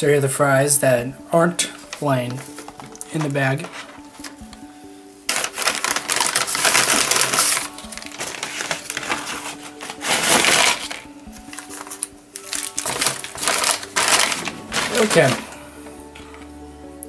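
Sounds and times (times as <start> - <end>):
background music: 0.0 - 17.0
paper packaging rustling: 1.7 - 4.4, 5.3 - 16.5.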